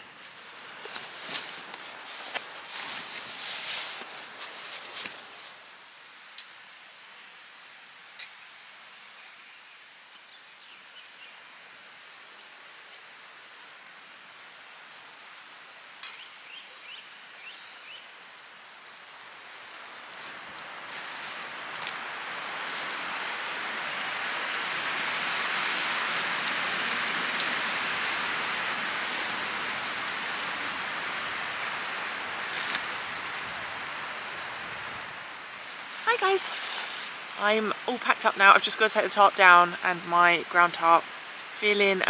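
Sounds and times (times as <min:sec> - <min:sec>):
wind through pine trees: 0:00.0 - 0:42.0.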